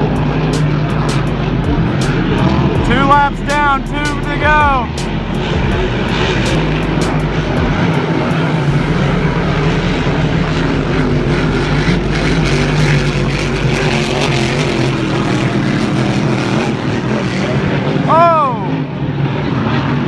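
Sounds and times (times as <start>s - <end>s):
racing boat engines droning: 0.0s - 20.0s.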